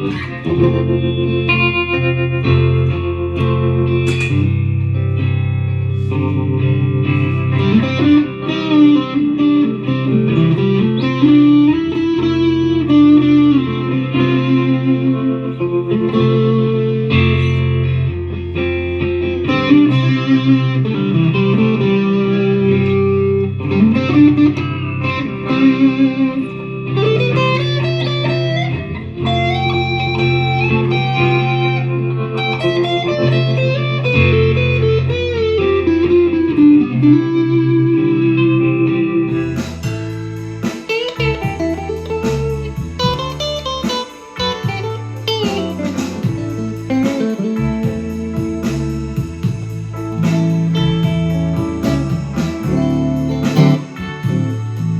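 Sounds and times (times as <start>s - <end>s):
electric guitar blues lead: 0.0s - 54.9s.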